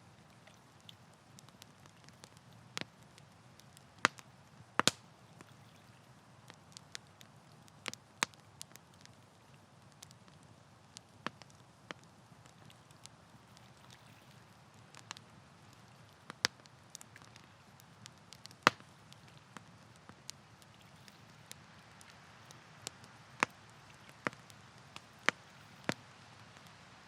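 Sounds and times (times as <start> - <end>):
campfire crackling pops: 0.0 - 27.0
faint steady hiss: 0.0 - 27.0.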